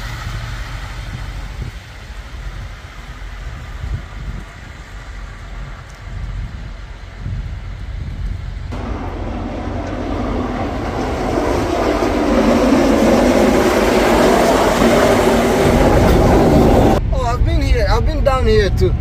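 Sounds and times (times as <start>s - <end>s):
rushing road noise: 0.0s - 17.2s
vehicle rumble: 0.0s - 19.0s.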